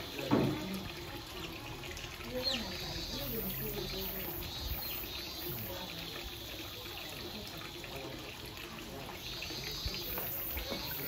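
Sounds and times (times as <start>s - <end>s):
running water trickling: 0.0s - 11.0s.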